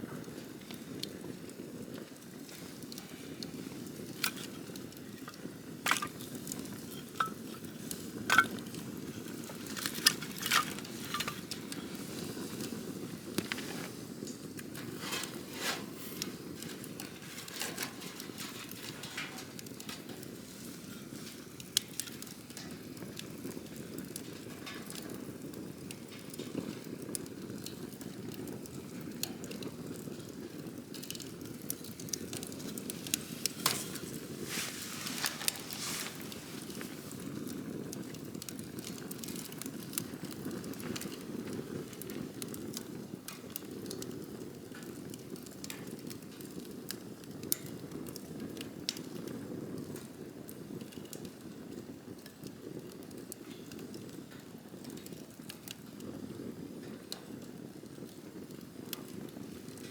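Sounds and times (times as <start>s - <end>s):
campfire flame rushing: 0.0s - 59.9s
fire crackling and popping: 0.0s - 59.9s.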